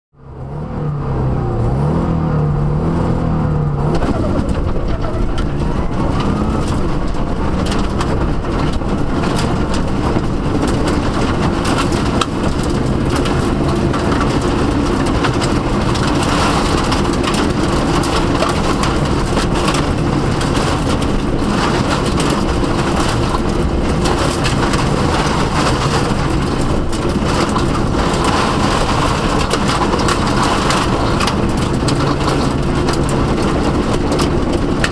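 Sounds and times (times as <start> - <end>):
road noise: 0.1 - 34.9
car engine revving: 0.2 - 34.9
gravel hitting car underside: 3.9 - 34.9.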